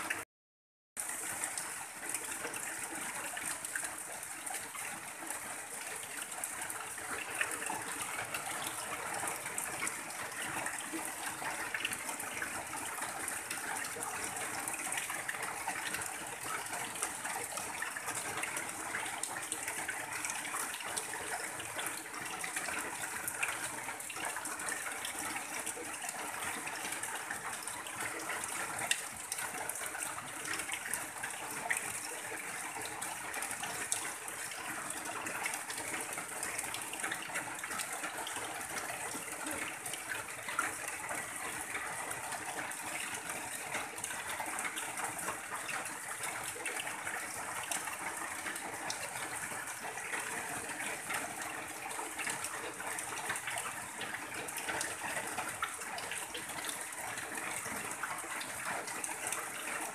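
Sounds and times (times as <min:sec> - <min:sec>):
rain on a tin roof: 0:00.0 - 0:00.2, 0:01.0 - 0:59.9
water pouring off roof edge: 0:01.0 - 0:59.9.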